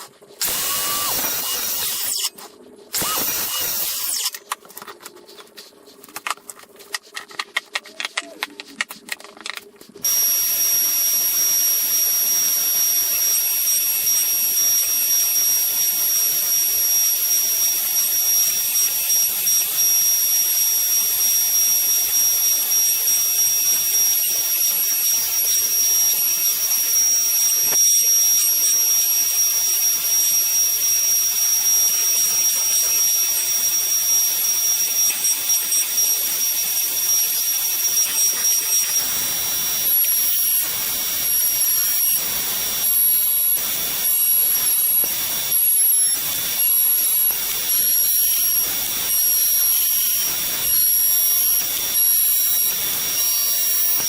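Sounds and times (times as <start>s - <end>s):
power tool motor whining: 0.0s - 5.5s, 10.0s - 54.0s.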